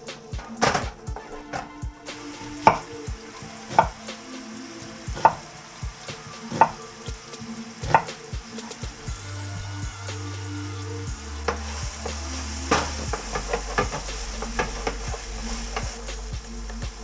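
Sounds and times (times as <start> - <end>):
food frying in a pan: 2.1 - 17.0.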